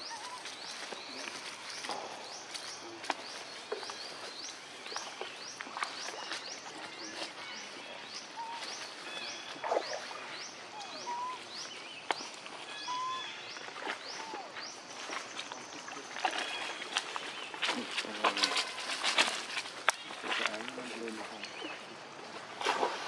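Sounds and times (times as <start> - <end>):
rustling on dry leaves: 0.0 - 9.7, 10.8 - 23.0.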